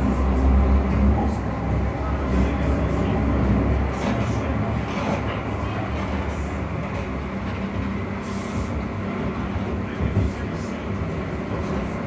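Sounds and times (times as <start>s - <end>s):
tram motor hum: 0.0s - 12.0s
wheel-on-rail rumble: 0.0s - 12.0s.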